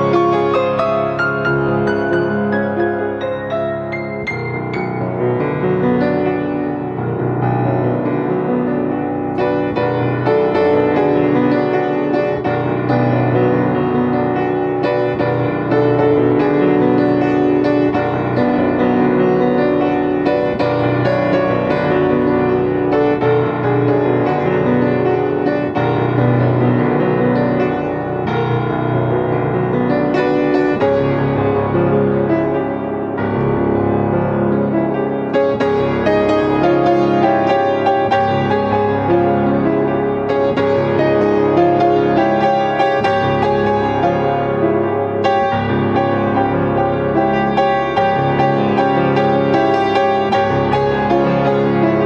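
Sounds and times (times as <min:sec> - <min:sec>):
solo grand piano: 0:00.0 - 0:52.0.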